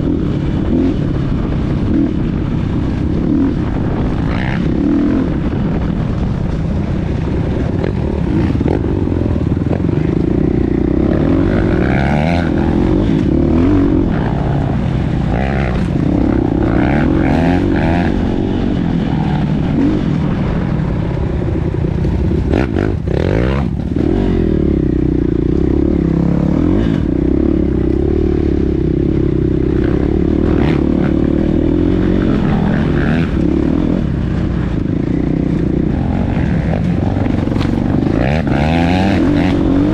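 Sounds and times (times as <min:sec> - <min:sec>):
motocross motorcycle engines revving: 0:00.0 - 0:39.9.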